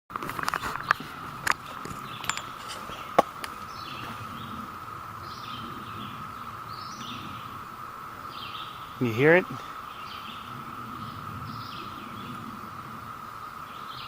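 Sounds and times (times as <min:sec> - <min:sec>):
small birds chirping: 0:00.5 - 0:14.0.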